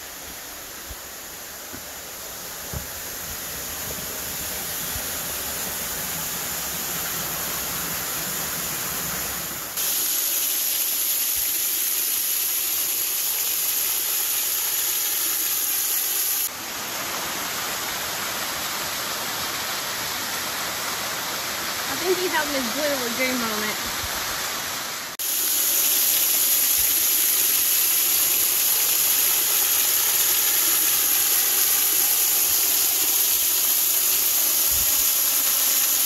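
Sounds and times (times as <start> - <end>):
small waterfall splashing: 0.0 - 36.0.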